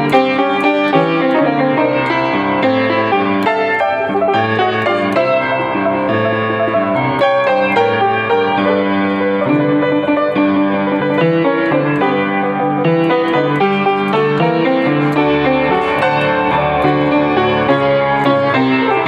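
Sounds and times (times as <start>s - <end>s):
blues piano playing: 0.0s - 19.0s.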